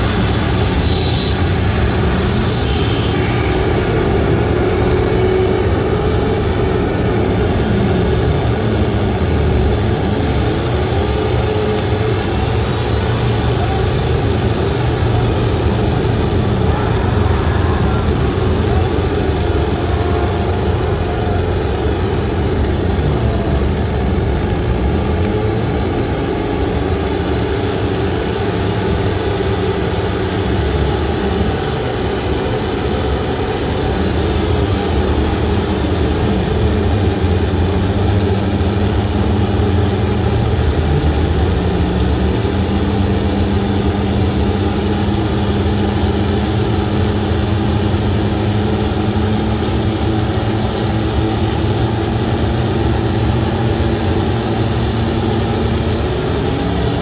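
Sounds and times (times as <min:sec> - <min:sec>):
distorted electronic noise music: 0:00.0 - 0:57.0.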